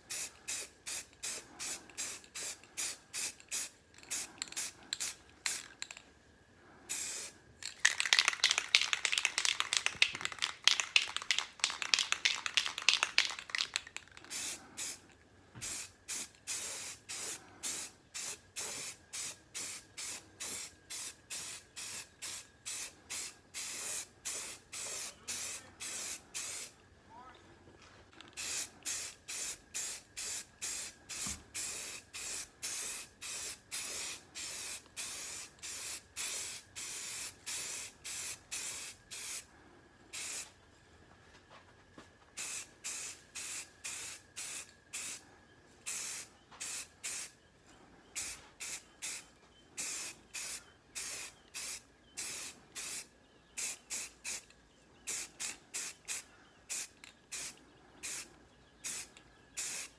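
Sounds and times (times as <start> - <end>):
spray paint can hissing: 0.1 - 6.0, 6.9 - 26.8, 28.4 - 39.5, 40.1 - 40.5, 42.4 - 45.2, 45.9 - 47.3, 48.2 - 49.2, 49.8 - 54.5, 55.1 - 59.9.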